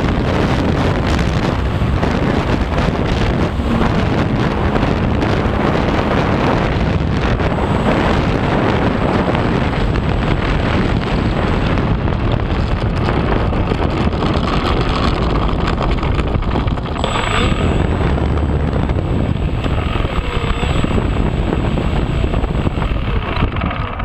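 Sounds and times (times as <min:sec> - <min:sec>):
model plane propeller and motor: 0:00.0 - 0:24.0
wind buffeting microphone: 0:00.0 - 0:24.0.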